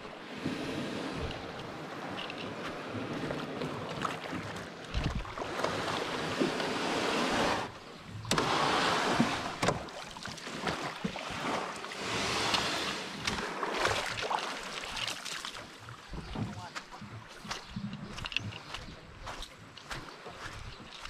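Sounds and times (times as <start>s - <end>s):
small waves lapping on shore: 0.0s - 21.0s.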